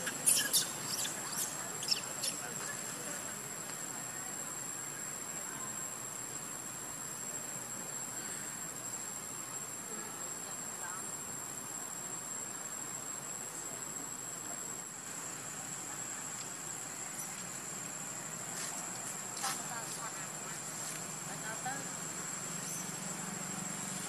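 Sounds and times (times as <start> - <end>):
faint background hiss: 0.0 - 24.0
insects droning: 0.0 - 24.0.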